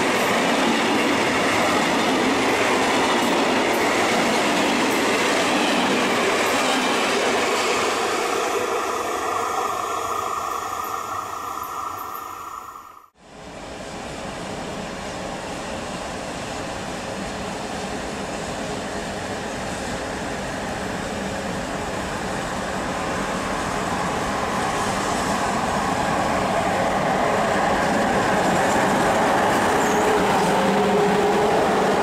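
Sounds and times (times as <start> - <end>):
locomotive and wheels on rails: 0.0 - 32.0.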